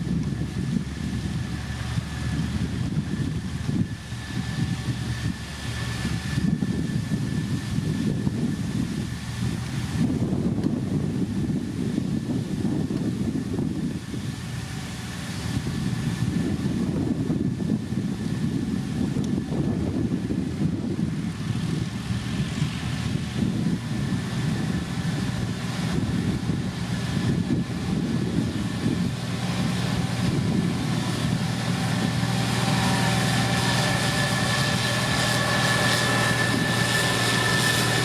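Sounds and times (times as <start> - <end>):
heavy machinery engine drone: 0.0 - 38.0
steady high whine: 0.0 - 38.0.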